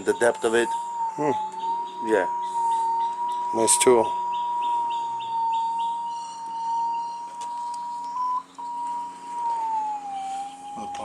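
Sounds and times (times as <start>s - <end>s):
steady electronic tone: 0.0s - 11.0s.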